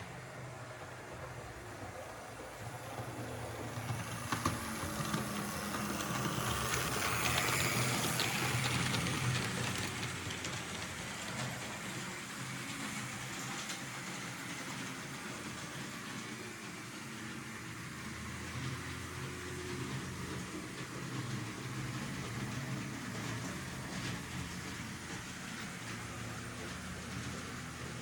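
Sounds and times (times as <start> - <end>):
model train rumbling on track: 0.0 - 28.0.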